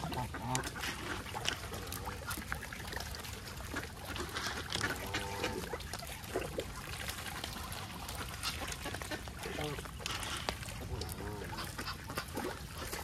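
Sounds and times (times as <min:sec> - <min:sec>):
ducks splashing in water: 0:00.0 - 0:13.0.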